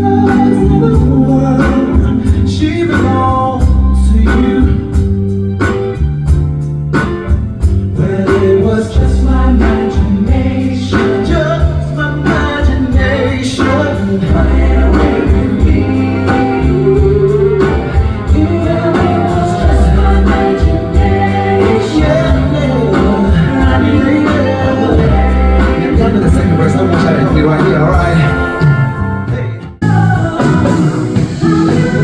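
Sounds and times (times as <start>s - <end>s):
person singing: 0.0s - 5.2s, 7.9s - 32.0s
live band music: 0.0s - 32.0s.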